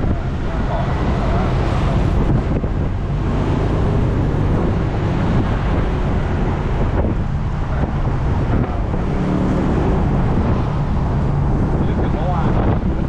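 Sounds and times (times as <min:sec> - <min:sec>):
vehicle engine and road noise: 0:00.0 - 0:13.0
wind buffeting microphone: 0:00.0 - 0:13.0.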